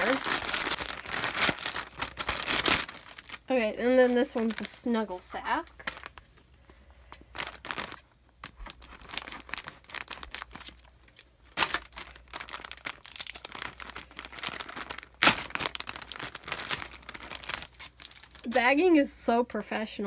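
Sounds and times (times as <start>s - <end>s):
plastic bag crinkling: 0.0s - 6.2s, 7.1s - 18.9s.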